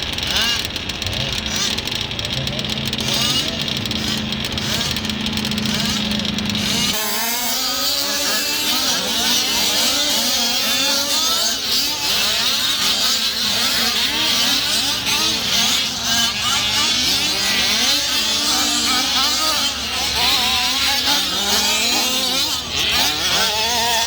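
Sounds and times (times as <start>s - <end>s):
rc car engines revving: 0.0s - 24.0s.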